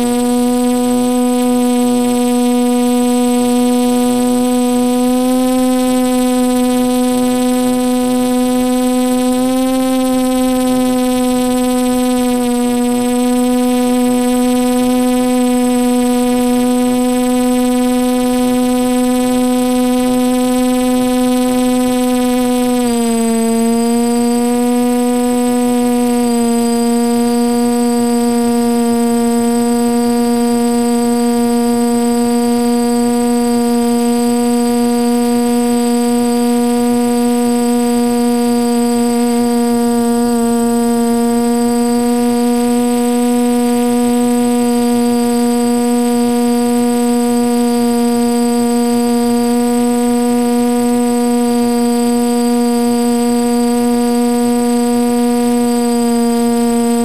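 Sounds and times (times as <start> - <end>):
drone propellers humming: 0.0 - 57.0.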